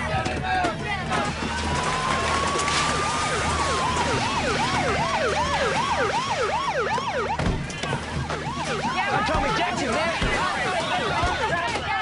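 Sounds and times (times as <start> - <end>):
police siren wailing: 1.4 - 12.0
police siren yelping: 1.6 - 11.6.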